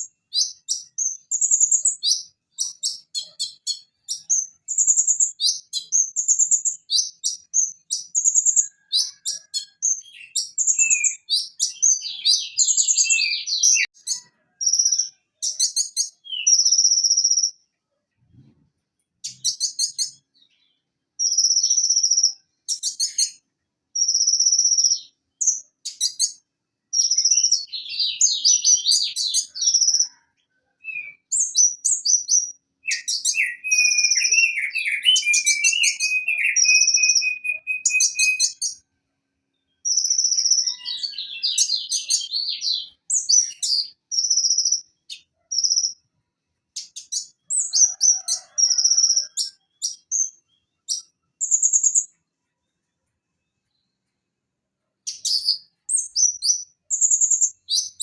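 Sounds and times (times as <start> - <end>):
bird singing whistles and trills: 0.0 - 17.6, 19.2 - 20.5, 21.2 - 23.4, 24.0 - 30.2, 30.8 - 38.8, 39.8 - 46.0, 46.8 - 52.1, 55.1 - 58.0.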